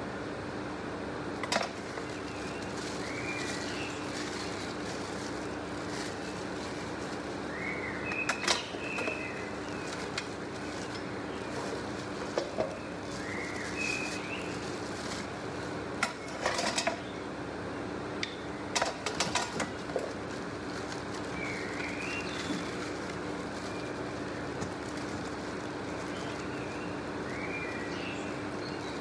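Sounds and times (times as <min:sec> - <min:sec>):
plastic bag crinkling: 0:01.3 - 0:17.0, 0:18.8 - 0:29.0.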